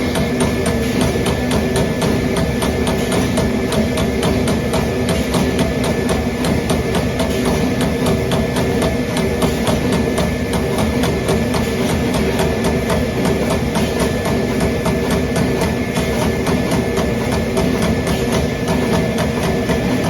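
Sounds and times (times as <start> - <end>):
machine running hum: 0.0 - 20.0
punch press punching sheet metal: 0.0 - 20.0.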